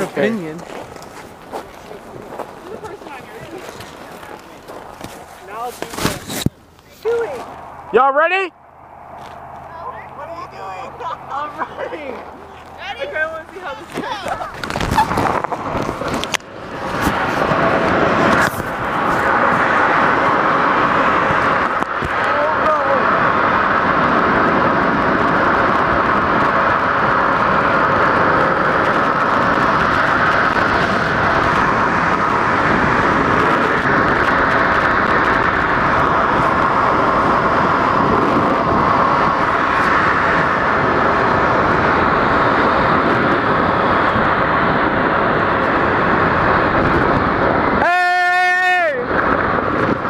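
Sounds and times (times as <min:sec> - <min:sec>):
snow tube scraping over snow: 0:00.0 - 0:07.6, 0:09.8 - 0:47.9
wind on microphone: 0:00.0 - 0:50.0.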